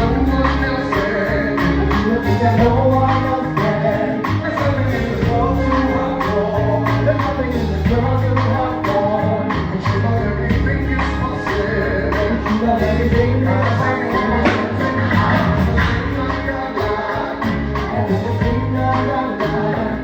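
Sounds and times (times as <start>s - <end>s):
gospel singing over a band: 0.0s - 20.0s
steady drum beat: 0.0s - 20.0s
sustained bass notes: 0.0s - 20.0s.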